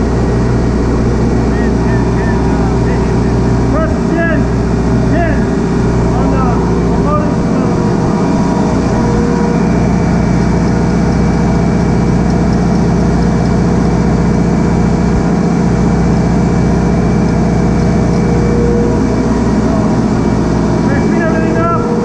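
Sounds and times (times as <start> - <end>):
refrigeration compressor droning: 0.0 - 22.0.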